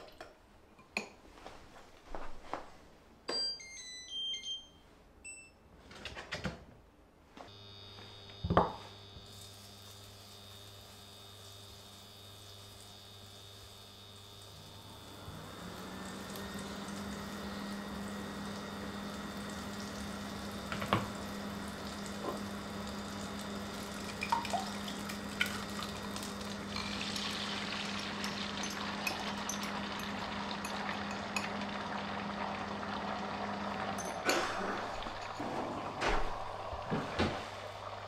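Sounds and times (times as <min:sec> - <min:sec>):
kitchen appliance humming: 0:07.5 - 0:38.0.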